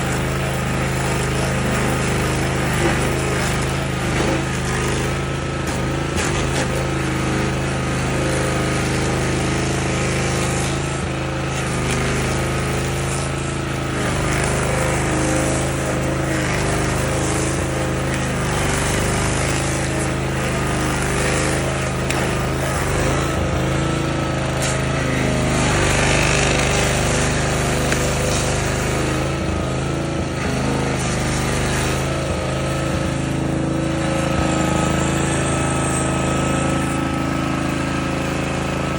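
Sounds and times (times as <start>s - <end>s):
cutter wheel grinding stump: 0.0s - 38.9s
stump grinder engine running: 0.0s - 38.9s.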